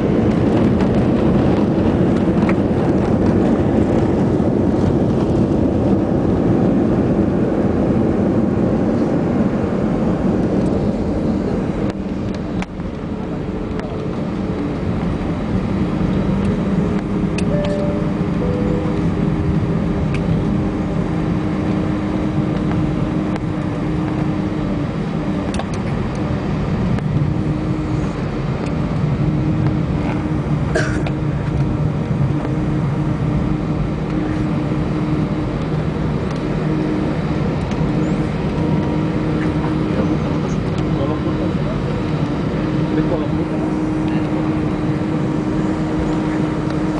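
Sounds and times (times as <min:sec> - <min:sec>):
low hum: 0:00.0 - 0:46.9
roar of engines and wheels in cabin: 0:00.0 - 0:46.9.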